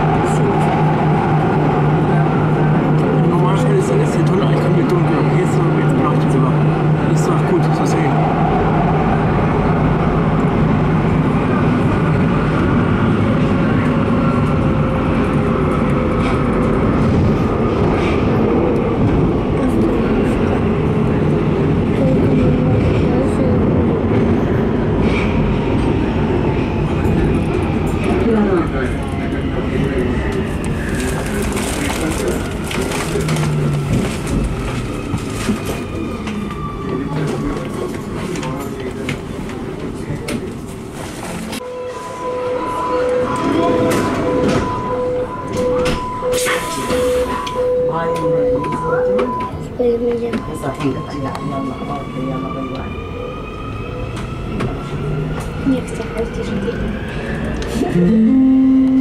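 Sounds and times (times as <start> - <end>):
train wheels rumbling on rail: 0.0 - 58.1.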